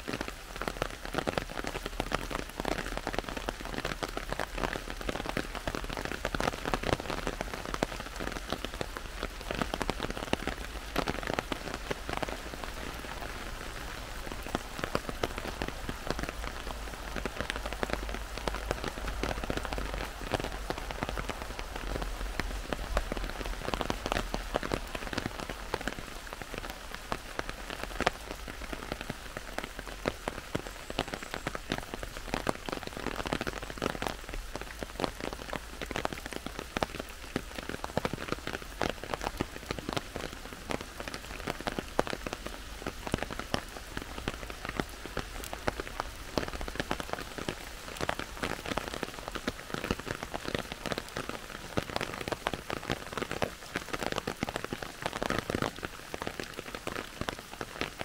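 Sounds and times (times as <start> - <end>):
heavy rain in a forest: 0.0 - 58.0.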